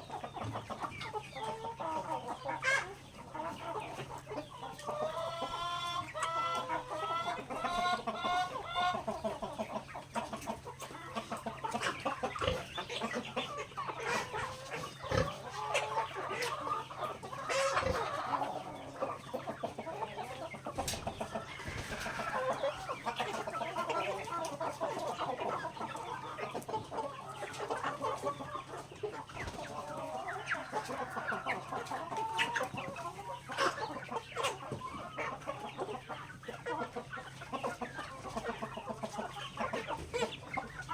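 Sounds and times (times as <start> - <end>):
beaks pecking grain: 0.0 - 40.9
chickens clucking: 0.0 - 40.9.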